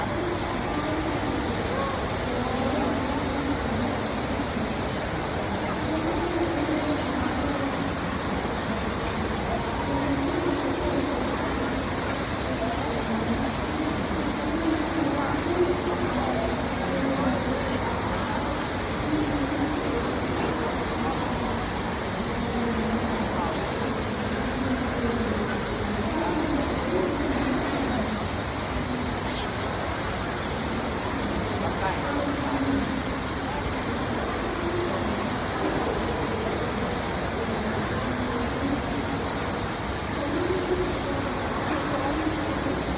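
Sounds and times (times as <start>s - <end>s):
faint voices: 0.0s - 42.9s
indoor waterfall rushing: 0.0s - 42.9s.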